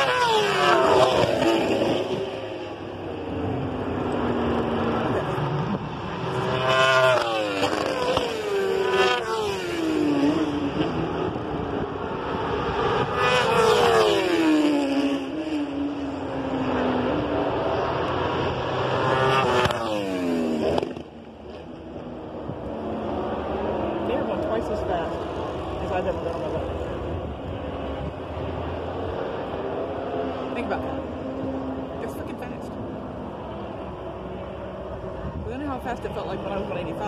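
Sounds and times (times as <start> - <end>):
racing motorcycles passing at speed: 0.0 - 37.0.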